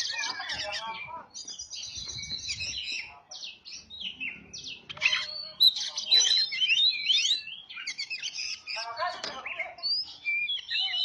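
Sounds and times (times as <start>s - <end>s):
bird singing whistles and chirps: 0.0s - 11.0s.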